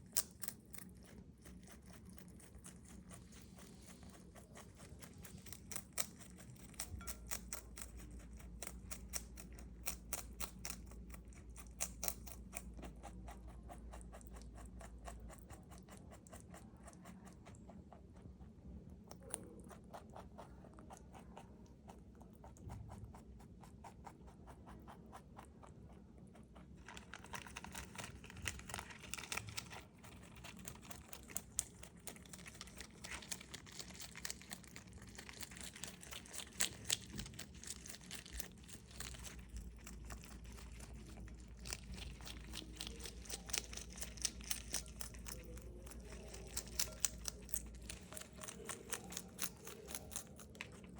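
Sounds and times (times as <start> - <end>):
rabbit chewing crisp leaves: 0.0 - 50.9.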